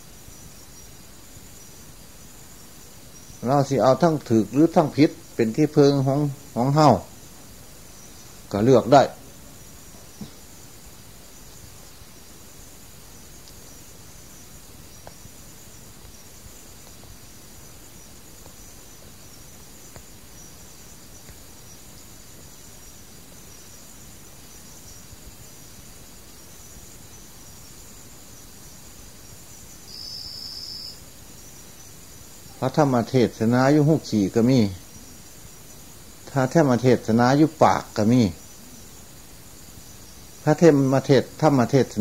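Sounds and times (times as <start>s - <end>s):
background hiss: 0.0s - 42.0s
insects chirring: 0.0s - 42.0s.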